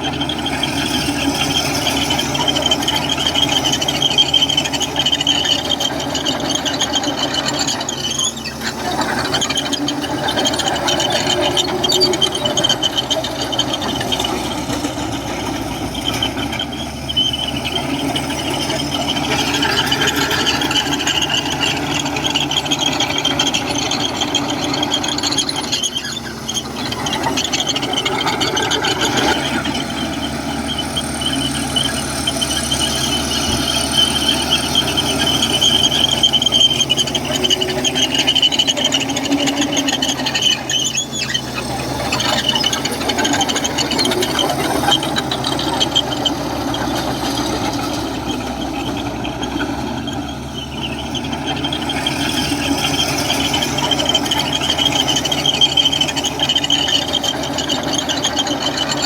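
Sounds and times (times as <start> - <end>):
diesel engine under load: 0.0 - 59.0
steel tracks squealing: 0.0 - 59.0.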